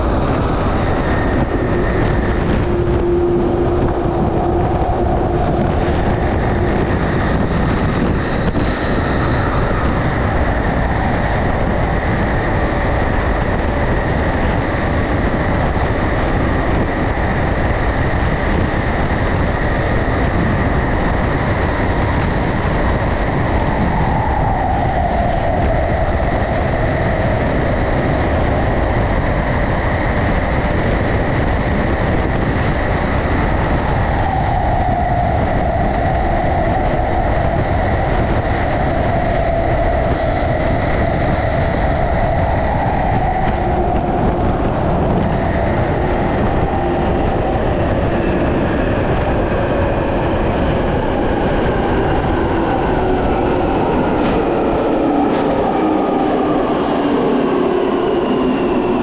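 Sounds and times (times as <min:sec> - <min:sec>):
high whine of train motors: 0:00.0 - 0:59.0
subway train rumbling in tunnel: 0:00.0 - 0:59.0.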